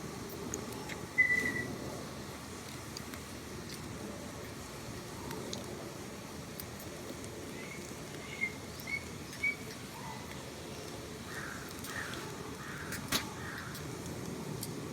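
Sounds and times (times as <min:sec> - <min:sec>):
outdoor ambience hiss: 0:00.0 - 0:14.9.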